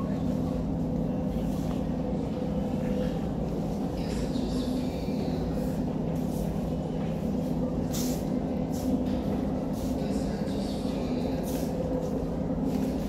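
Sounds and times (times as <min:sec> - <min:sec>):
low hum of store interior: 0:00.0 - 0:13.0.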